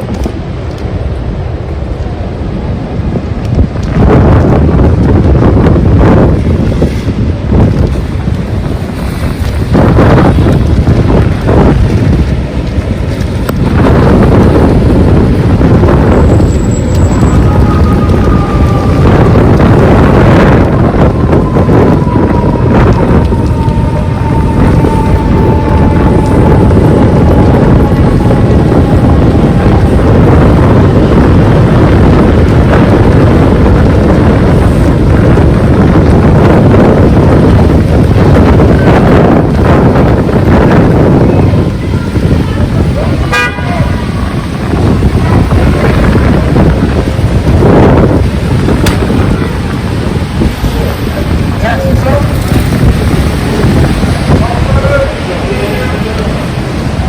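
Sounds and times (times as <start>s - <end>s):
gusty wind buffeting microphone: 0.0s - 57.0s
heavy rain: 0.0s - 57.0s.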